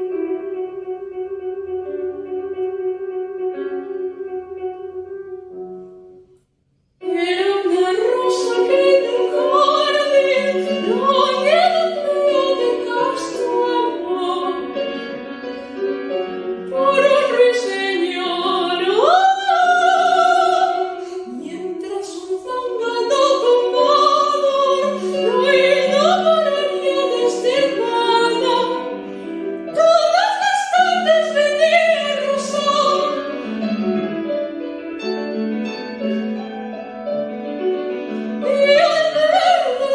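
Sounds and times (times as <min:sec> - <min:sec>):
piano accompaniment: 0:00.0 - 0:39.9
soprano singing: 0:07.0 - 0:39.9.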